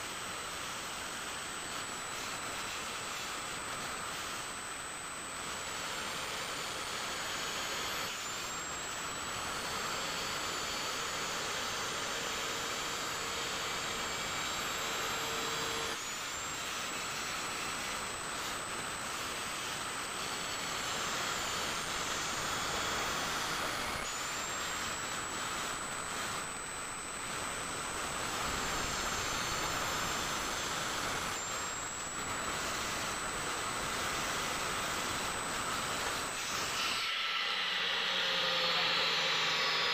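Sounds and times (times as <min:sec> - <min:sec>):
angle grinder grinding metal: 0:06.0 - 0:39.9.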